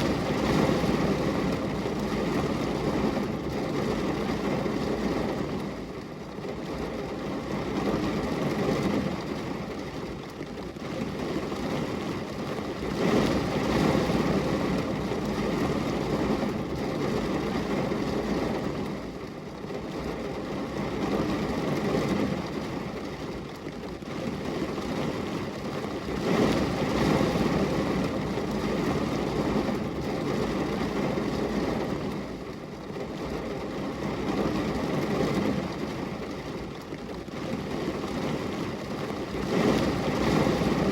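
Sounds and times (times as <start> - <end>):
heavy rain on glass window: 0.0 - 40.9.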